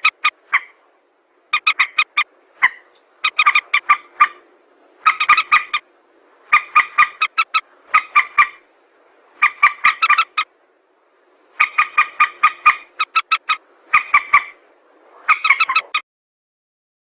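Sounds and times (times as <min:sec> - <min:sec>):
recorded rail bird call: 0:00.0 - 0:10.6, 0:11.4 - 0:16.0.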